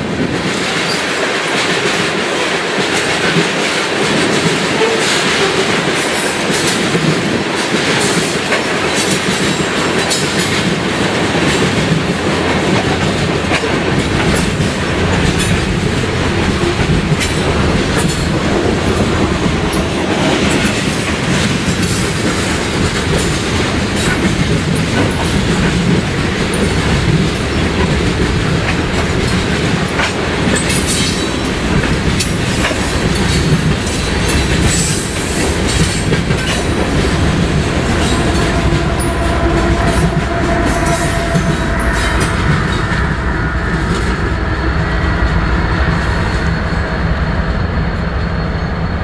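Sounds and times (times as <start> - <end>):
train low rumble: 0.0 - 49.0
train wheels clicking over rail joints: 0.2 - 44.2.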